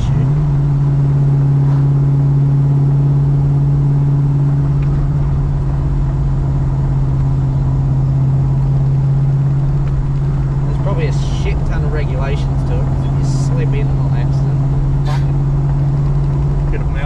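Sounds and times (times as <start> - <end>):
car engine droning steadily: 0.0 - 17.0.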